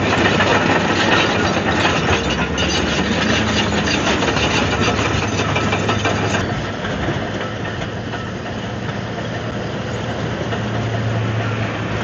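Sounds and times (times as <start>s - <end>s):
bulldozer diesel engine: 0.0s - 12.0s
bulldozer tracks: 0.0s - 12.0s.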